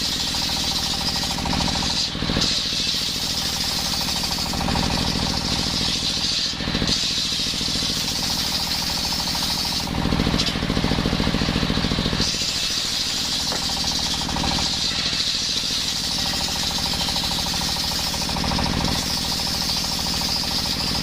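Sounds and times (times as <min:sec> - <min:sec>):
circular saw running: 0:00.0 - 0:21.0
saw blade cutting wood hiss: 0:00.0 - 0:21.0.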